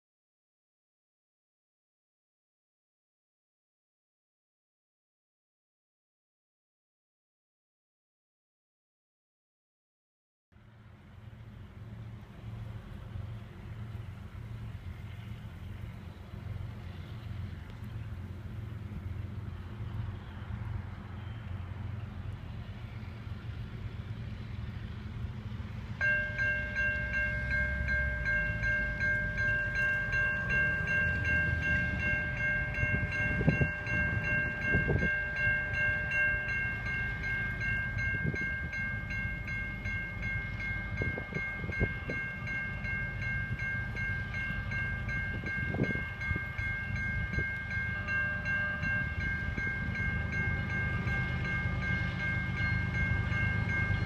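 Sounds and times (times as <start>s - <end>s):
diesel locomotive rumble: 10.6s - 54.0s.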